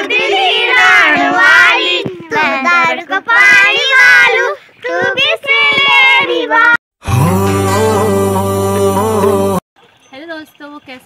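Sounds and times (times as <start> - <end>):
children singing: 0.0 - 9.6.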